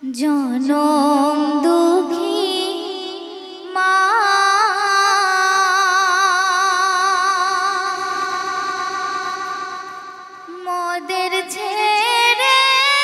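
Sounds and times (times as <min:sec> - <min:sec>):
woman singing unaccompanied: 0:00.0 - 0:09.6, 0:10.5 - 0:13.0.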